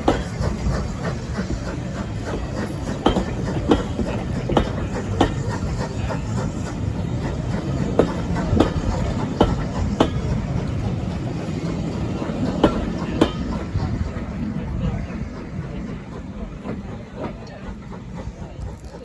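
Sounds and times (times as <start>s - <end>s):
train wheels clacking over rail joints: 0.0s - 19.0s.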